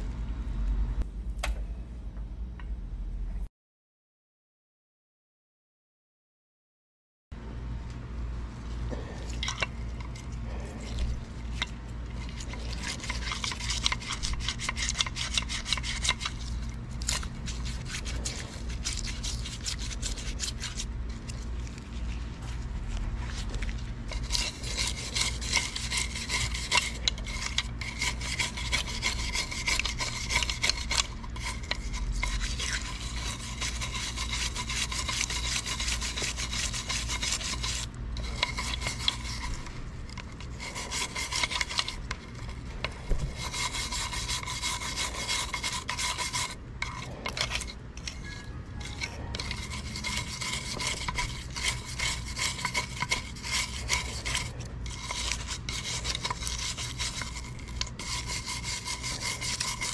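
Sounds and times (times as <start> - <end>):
tool scraping paint off metal: 8.9 - 21.8, 23.5 - 59.9.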